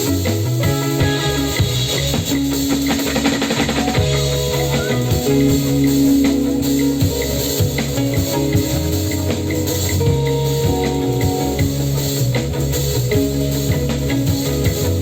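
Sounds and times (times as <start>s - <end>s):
drum kit beat: 0.0s - 15.0s
guitar lines: 0.0s - 15.0s
live band trance music: 0.0s - 15.0s.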